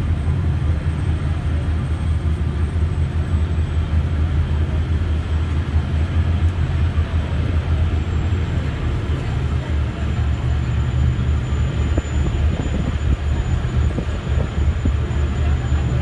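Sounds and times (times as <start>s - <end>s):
ferry engines droning: 0.0s - 16.0s
propeller wash churning: 0.0s - 16.0s.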